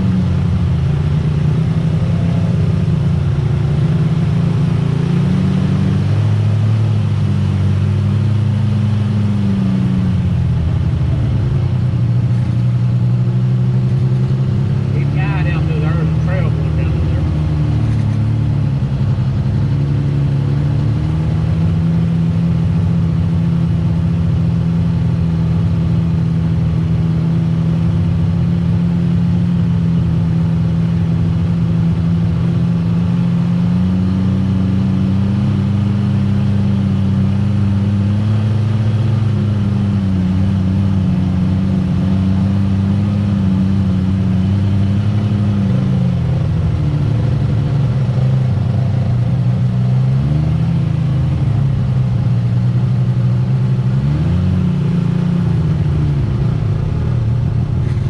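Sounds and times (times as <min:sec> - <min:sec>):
utv engine running: 0:00.0 - 0:58.0.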